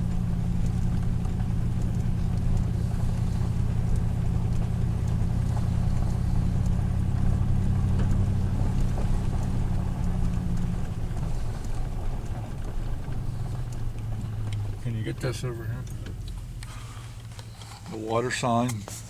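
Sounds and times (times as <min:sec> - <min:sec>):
car engine running: 0:00.0 - 0:19.0
road rumble: 0:00.0 - 0:19.0.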